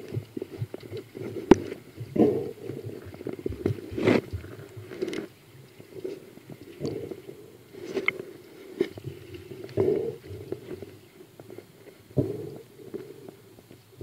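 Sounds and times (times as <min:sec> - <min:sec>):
muffled underwater rumbling: 0:00.0 - 0:14.0.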